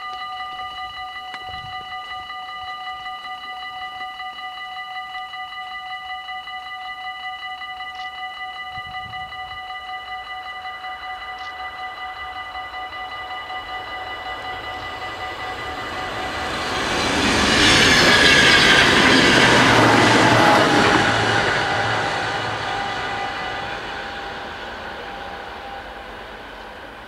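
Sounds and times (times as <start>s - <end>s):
electric train passing: 0.0s - 27.0s
level crossing warning bells: 0.0s - 27.0s.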